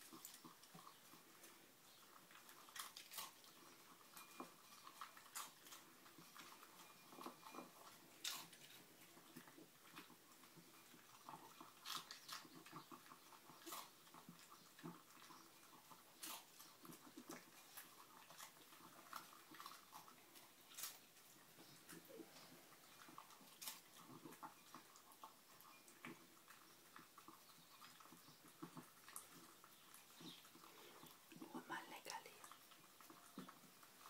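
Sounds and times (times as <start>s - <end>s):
dog chewing: 0.0s - 34.0s.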